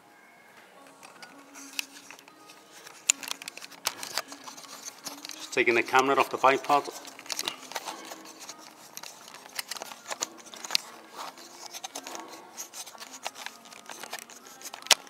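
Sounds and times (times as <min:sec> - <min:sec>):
camera handling noise: 0:00.9 - 0:15.0.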